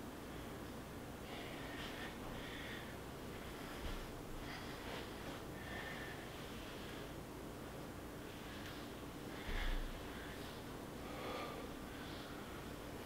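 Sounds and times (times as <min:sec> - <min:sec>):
man breathing heavily: 0:00.2 - 0:07.3, 0:08.2 - 0:13.0.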